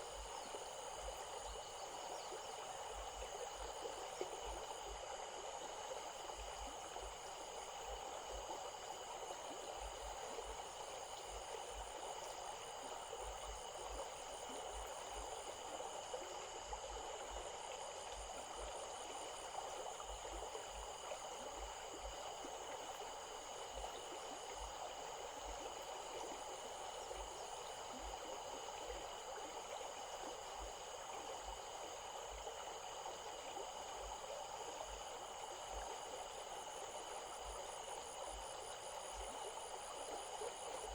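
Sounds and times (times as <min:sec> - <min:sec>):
stream flowing over rocks: 0:00.0 - 0:40.9
insects trilling: 0:06.9 - 0:40.9.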